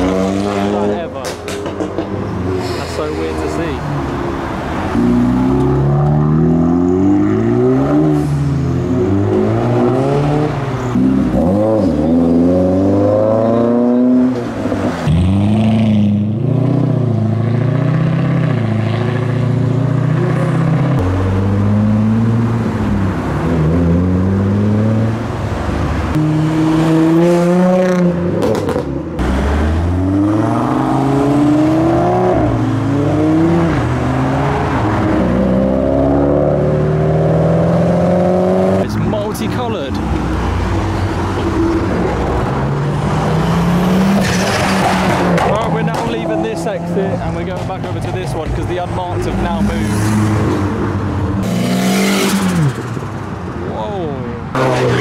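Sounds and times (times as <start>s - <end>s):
cars accelerating past: 0.0s - 53.8s, 54.4s - 55.0s.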